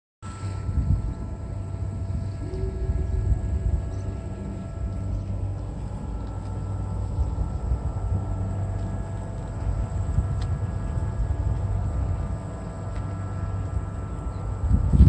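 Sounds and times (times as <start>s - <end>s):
low rumble with steady hum: 0.2s - 15.0s.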